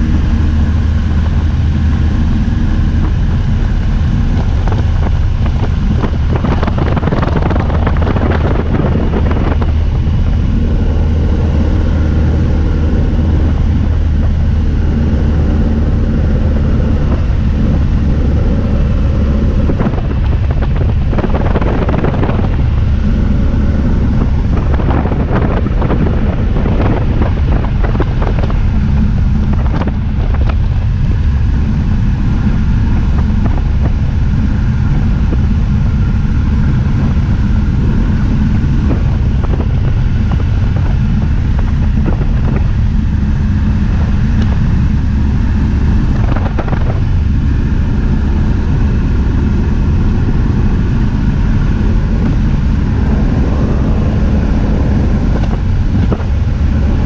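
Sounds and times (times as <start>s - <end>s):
light aircraft engine droning: 0.0s - 57.0s
wind buffeting microphone: 0.0s - 57.0s.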